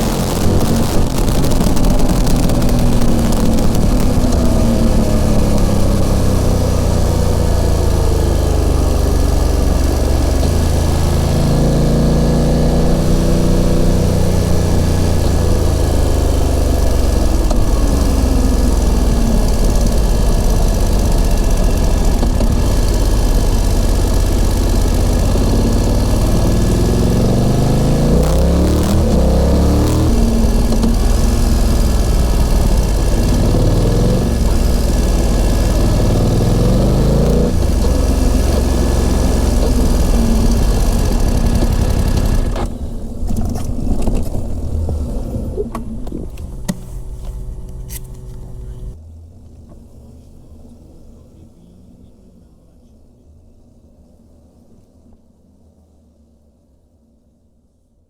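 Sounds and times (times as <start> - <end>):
wind against motorcycle: 0.0 - 51.2
motorcycle engine and exhaust: 0.0 - 53.0.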